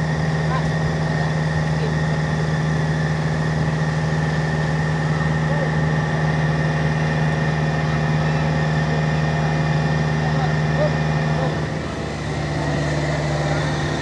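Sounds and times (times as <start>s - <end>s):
heavy diesel engine idling: 0.0s - 14.0s.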